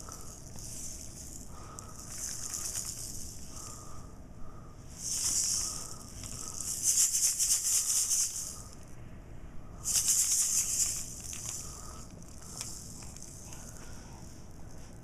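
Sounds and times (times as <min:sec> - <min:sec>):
toy rattle shaking: 0:00.0 - 0:04.0, 0:04.9 - 0:08.9, 0:09.8 - 0:15.0.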